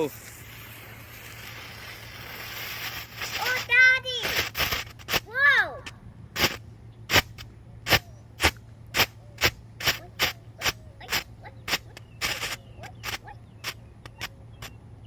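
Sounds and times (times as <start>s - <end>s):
firework hissing burst: 0.0s - 5.3s, 6.3s - 13.8s
firework popping: 0.0s - 14.8s.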